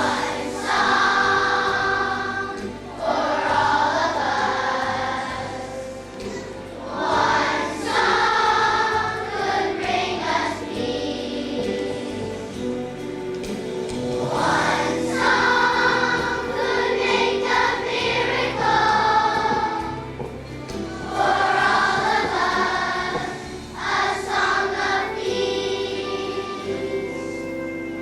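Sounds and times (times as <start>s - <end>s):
children's choir singing: 0.0s - 28.0s
instrumental accompaniment: 0.0s - 28.0s.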